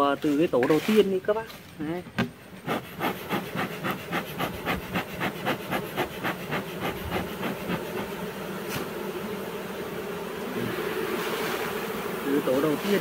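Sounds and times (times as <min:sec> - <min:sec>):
bee smoker bellows puffing: 0:02.2 - 0:13.0
bees buzzing: 0:02.3 - 0:13.0.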